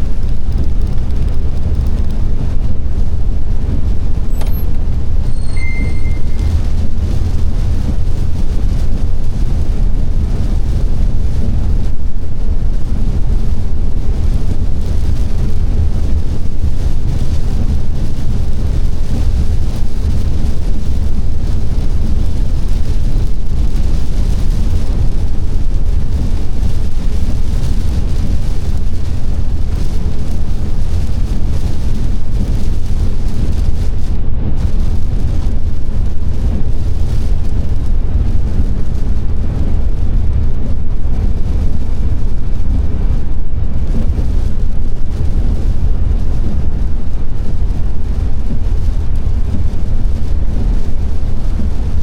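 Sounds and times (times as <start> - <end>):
car driving on wet road: 0.0 - 52.0.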